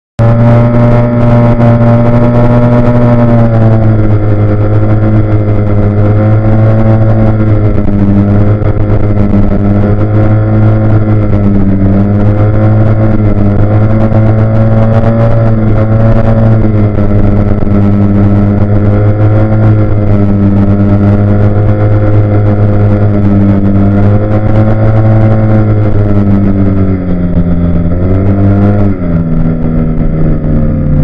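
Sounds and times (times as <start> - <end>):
car engine droning: 0.2 - 31.0.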